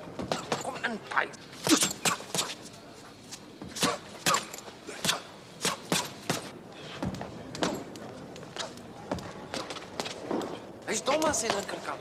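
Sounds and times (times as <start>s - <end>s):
boxing gloves punching air: 0.0s - 0.8s, 1.6s - 2.7s, 3.3s - 11.7s.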